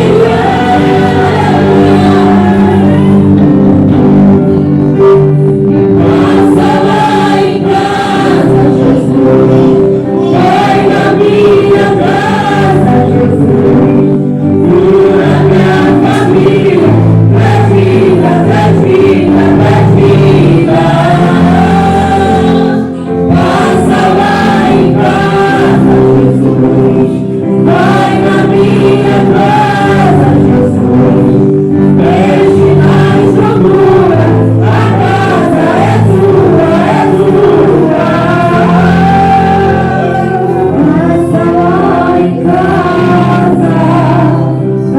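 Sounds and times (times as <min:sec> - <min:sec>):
choir singing gospel: 0:00.0 - 0:44.9
instrumental accompaniment with bass: 0:00.0 - 0:44.9.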